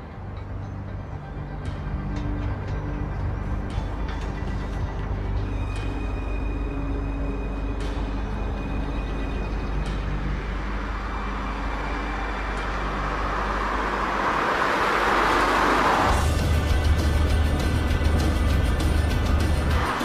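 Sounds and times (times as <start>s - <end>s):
car approaching: 0.0s - 20.0s.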